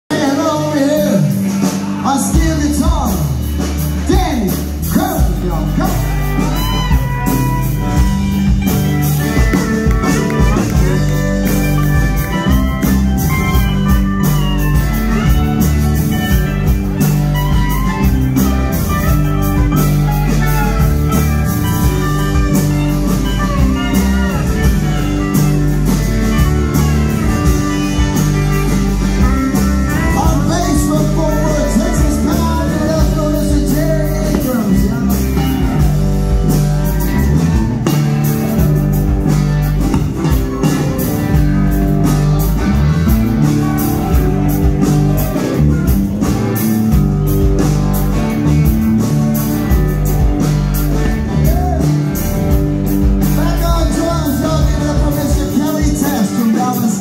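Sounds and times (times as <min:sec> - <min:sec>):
drums: 0:00.0 - 0:57.0
electric bass: 0:00.0 - 0:57.0
electric guitar: 0:00.1 - 0:57.0
pedal steel guitar sliding notes: 0:05.6 - 0:53.6.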